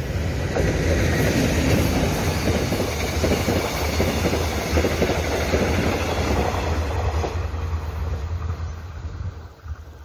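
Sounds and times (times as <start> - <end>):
train rumbling past: 0.0 - 10.0
wheels clattering on rails: 0.4 - 10.0.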